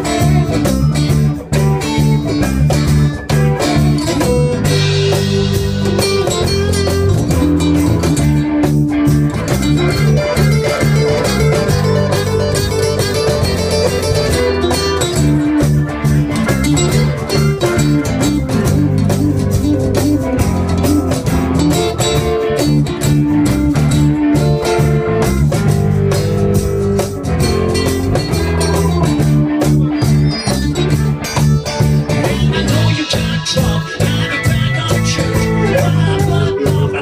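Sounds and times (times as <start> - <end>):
acoustic guitar: 0.0 - 37.0
bass line: 0.0 - 37.0
drum kit: 0.0 - 37.0.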